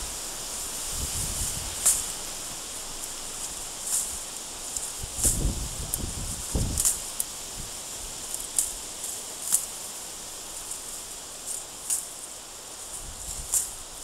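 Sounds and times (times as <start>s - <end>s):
insect hiss: 0.0s - 14.0s.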